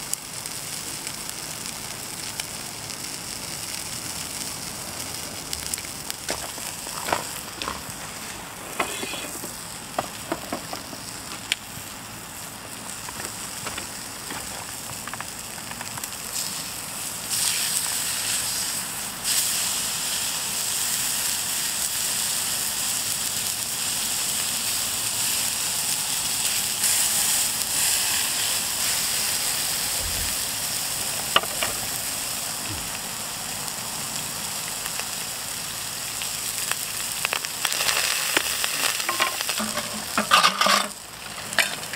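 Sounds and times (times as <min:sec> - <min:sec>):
meat sizzling in a pan: 0:00.0 - 0:41.9.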